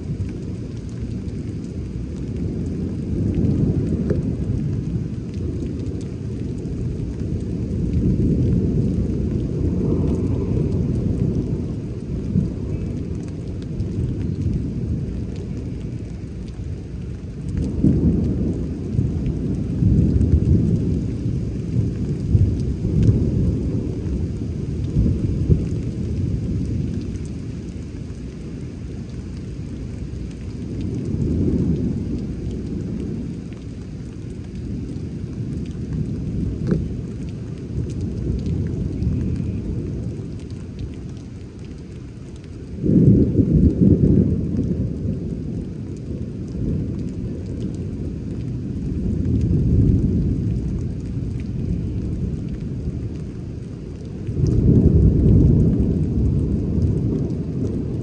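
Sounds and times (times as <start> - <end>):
steady rain: 0.0 - 58.0
thunder rumbling: 0.0 - 58.0.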